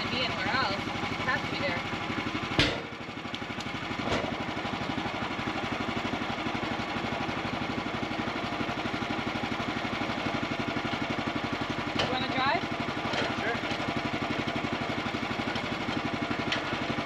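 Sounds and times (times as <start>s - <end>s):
small gasoline engine idling: 0.0s - 17.0s.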